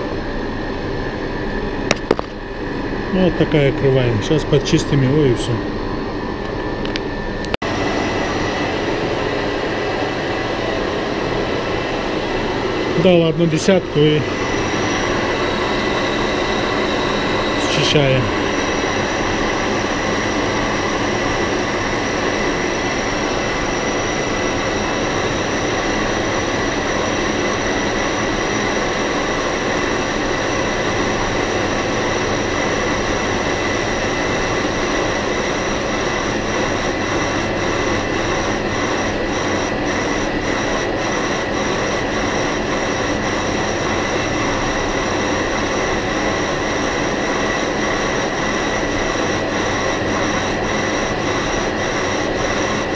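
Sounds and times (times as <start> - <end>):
high-pitched whine: 0.0 - 52.9
lathe machining noise: 7.6 - 52.9.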